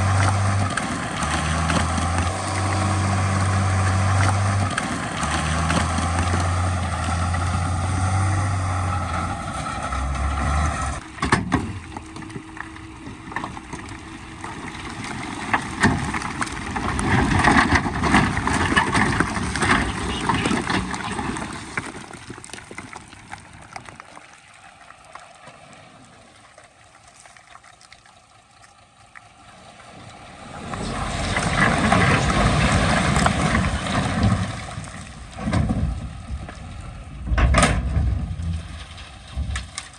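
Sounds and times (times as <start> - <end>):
heavy machinery diesel engines: 0.0 - 22.5, 29.5 - 39.9.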